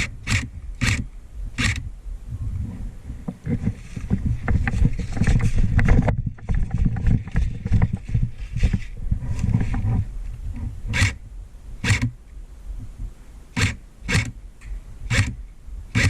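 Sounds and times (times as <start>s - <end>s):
camera microphone rumbling: 0.0s - 16.0s.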